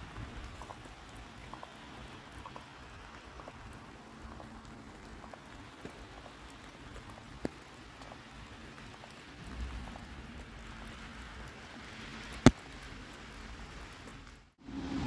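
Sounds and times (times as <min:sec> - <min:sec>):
light rain pattering: 0:00.0 - 0:14.6.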